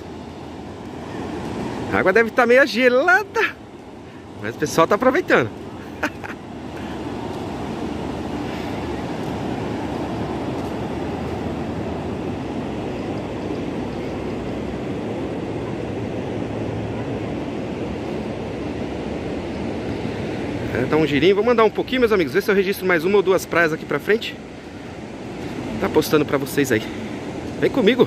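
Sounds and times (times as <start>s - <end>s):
distant surf: 0.0s - 28.0s.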